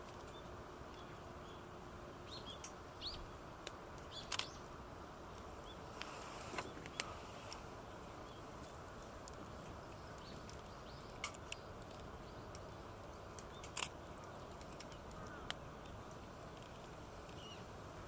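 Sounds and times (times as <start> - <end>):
small birds chirping: 0.0 - 3.4, 4.0 - 4.8, 5.4 - 18.0
campfire crackling: 0.0 - 18.0
low hiss: 0.0 - 18.0.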